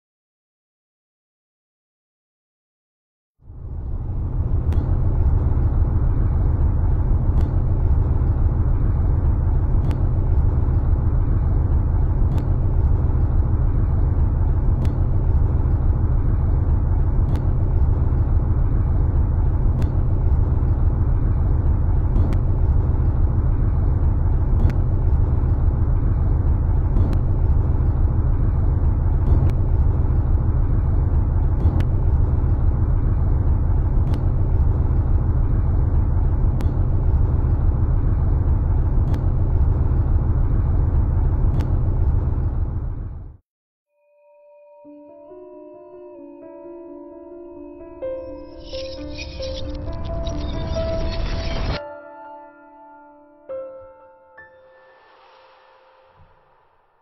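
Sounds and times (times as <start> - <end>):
low rumbling drone: 3.4 - 43.4, 44.0 - 51.8.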